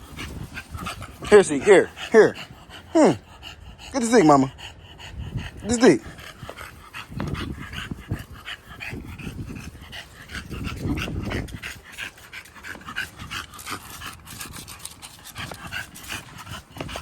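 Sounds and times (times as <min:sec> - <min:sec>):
puppy panting: 0:00.0 - 0:17.0.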